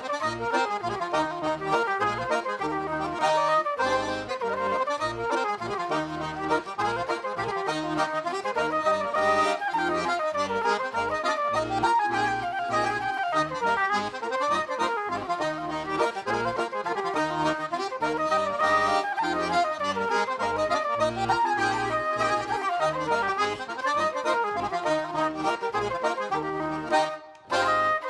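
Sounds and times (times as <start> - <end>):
button accordion dance tune: 0.0 - 28.0.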